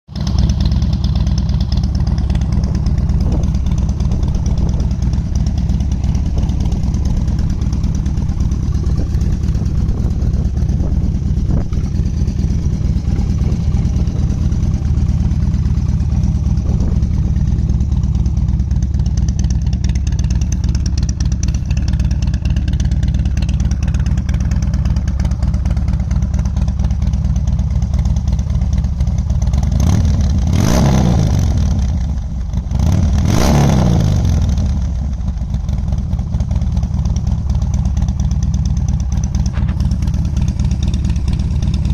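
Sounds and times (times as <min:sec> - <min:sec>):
motorcycle engine idling: 0:00.1 - 0:41.9.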